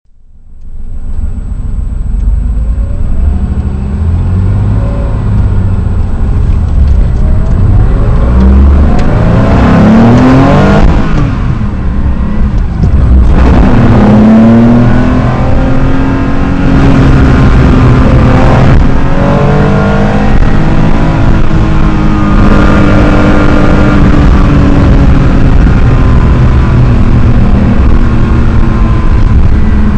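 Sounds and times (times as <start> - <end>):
car engine accelerating hard: 0.8 - 29.9.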